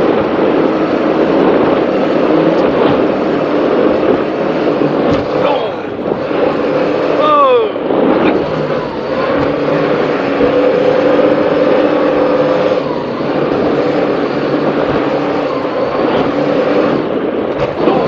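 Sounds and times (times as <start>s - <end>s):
powerboat engines droning: 0.0s - 18.0s
wind and water rushing: 0.0s - 18.0s.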